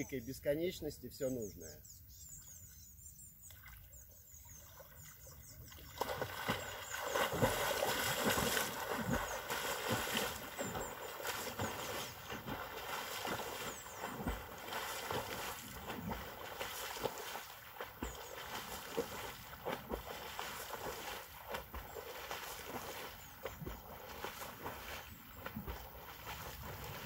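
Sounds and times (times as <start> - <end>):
birds chirping faintly: 0.0 - 27.0
swimming splashes: 4.6 - 27.0.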